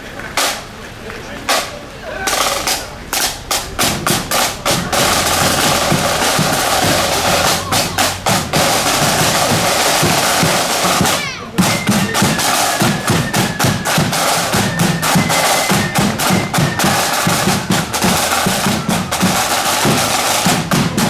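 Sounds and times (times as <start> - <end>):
marching band playing: 0.0 - 21.0
snare drum rolls: 0.0 - 21.0
bass drum beats: 1.4 - 21.0.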